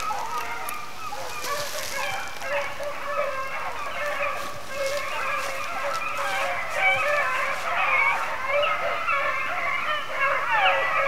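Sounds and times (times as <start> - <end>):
chorus of animals calling: 0.0 - 11.0.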